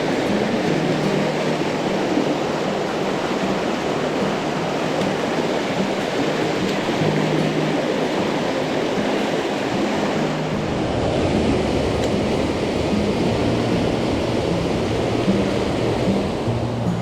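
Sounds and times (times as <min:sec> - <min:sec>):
stream water rushing over rocks: 0:00.0 - 0:17.0.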